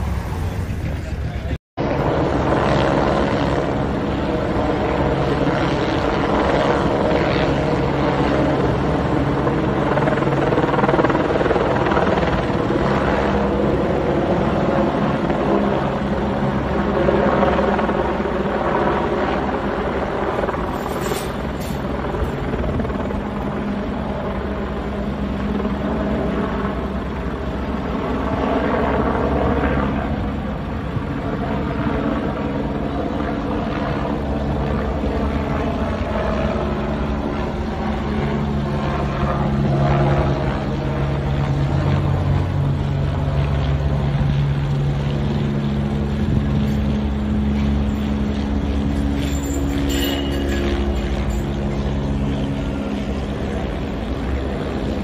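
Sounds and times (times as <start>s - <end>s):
helicopter flying overhead: 0.0s - 55.0s.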